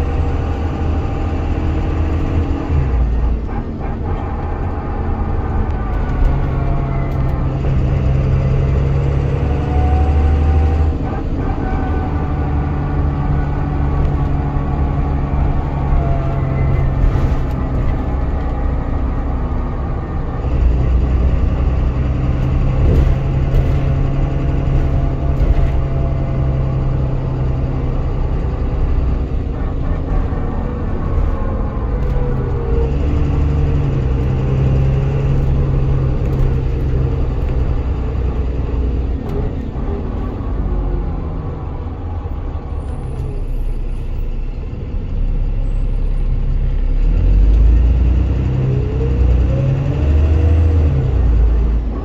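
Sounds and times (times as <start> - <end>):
bus diesel engine: 0.0 - 52.0.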